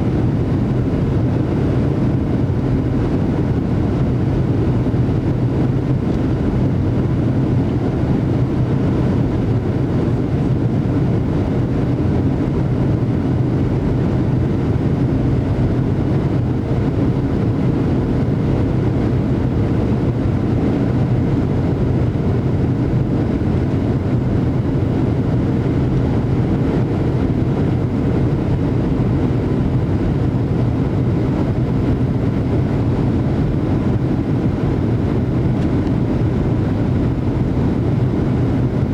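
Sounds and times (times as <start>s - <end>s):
airliner cabin engine rush: 0.0s - 38.9s.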